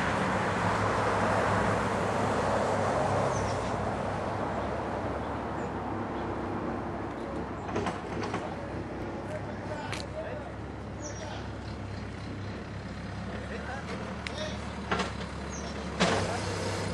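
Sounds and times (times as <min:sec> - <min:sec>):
passing motor vehicle: 0:00.0 - 0:16.9.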